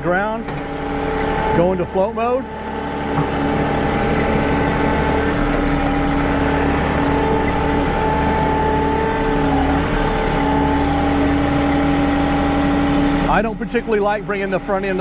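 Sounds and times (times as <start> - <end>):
steady whine: 0.0 - 15.0
tractor diesel engine running: 0.0 - 15.0.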